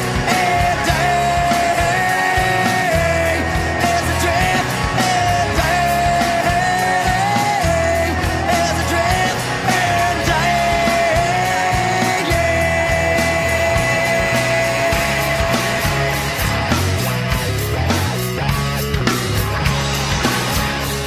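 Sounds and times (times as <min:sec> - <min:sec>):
bass: 0:00.0 - 0:21.0
drums: 0:00.0 - 0:21.0.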